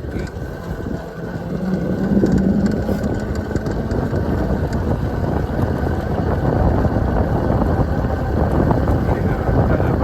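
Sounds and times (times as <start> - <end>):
motorcycle tyre and drivetrain noise: 0.0 - 10.0
wind on microphone: 0.0 - 10.0.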